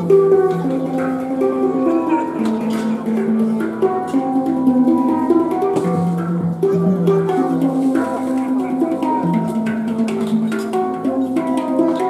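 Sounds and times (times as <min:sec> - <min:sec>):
melody of held notes: 0:00.0 - 0:12.0.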